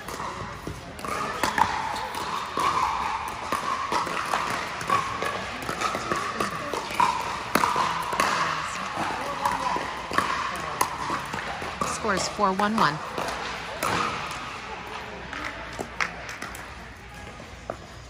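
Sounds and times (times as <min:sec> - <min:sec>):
paddles hitting plastic ball: 0:00.0 - 0:16.8
background noise: 0:00.0 - 0:18.0.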